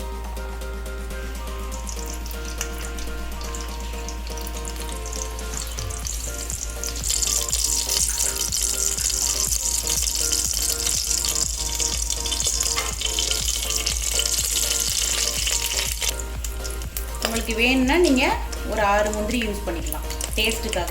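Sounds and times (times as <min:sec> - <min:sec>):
background music: 0:00.0 - 0:20.9
food sizzling in hot oil: 0:00.0 - 0:20.9.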